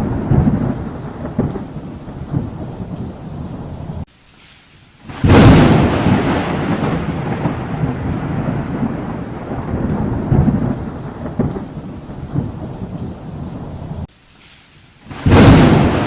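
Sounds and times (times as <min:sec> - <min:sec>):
thunder rumbling: 0:00.0 - 0:04.1, 0:05.1 - 0:14.1, 0:15.1 - 0:16.0.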